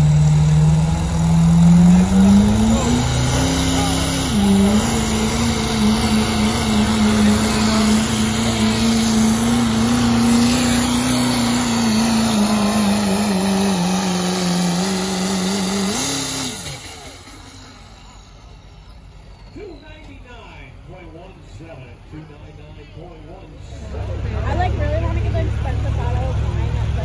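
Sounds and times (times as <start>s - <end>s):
diesel truck engine at full throttle: 0.0s - 27.0s.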